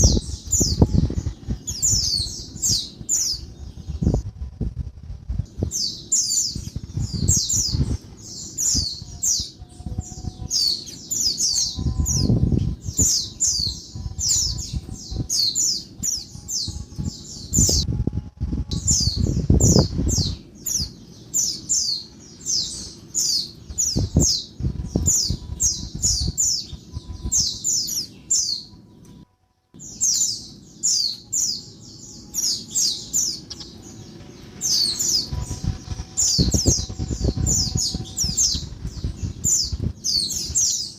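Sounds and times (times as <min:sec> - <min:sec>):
low rumbling noise: 0:00.0 - 0:40.9.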